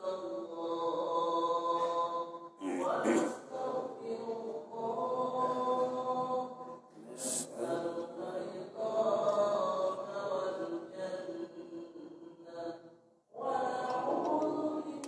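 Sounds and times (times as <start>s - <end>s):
melodic devotional chanting: 0.0s - 15.0s.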